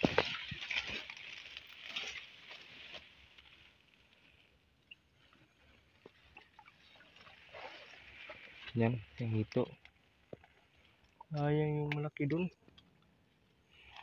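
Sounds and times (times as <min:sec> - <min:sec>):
rustling of grass and leaves: 0:00.0 - 0:12.5, 0:13.1 - 0:14.0.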